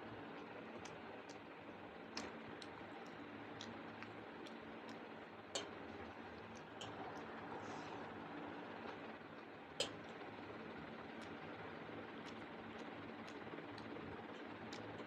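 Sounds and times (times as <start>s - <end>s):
chewing clicks and smacks: 0.0s - 7.6s, 8.3s - 15.0s.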